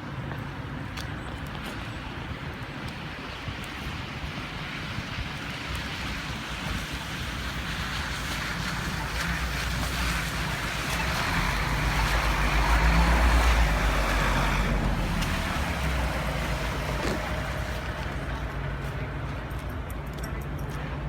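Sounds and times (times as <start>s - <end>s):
blizzard wind buffeting microphone: 0.0s - 20.0s.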